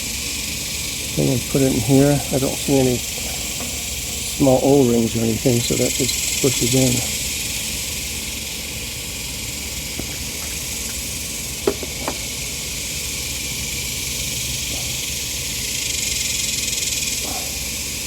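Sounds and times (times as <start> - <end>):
steady high-pitched hiss: 0.0 - 18.0.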